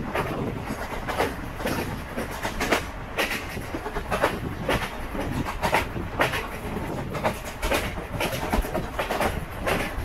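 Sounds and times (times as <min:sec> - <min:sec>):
train rumble and rushing air: 0:00.0 - 0:10.0
train wheels clacking over rail joints: 0:00.0 - 0:10.0.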